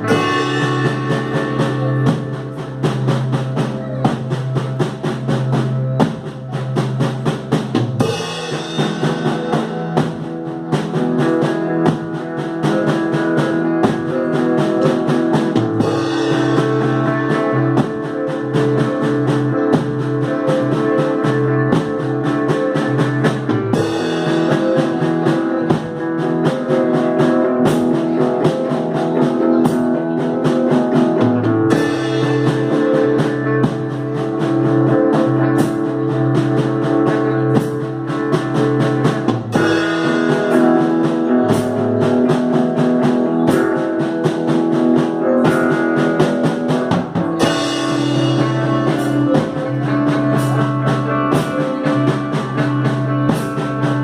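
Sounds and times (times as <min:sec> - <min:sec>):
bass line: 0:00.0 - 0:54.0
drum kit: 0:00.0 - 0:54.0
electric guitars: 0:00.0 - 0:54.0.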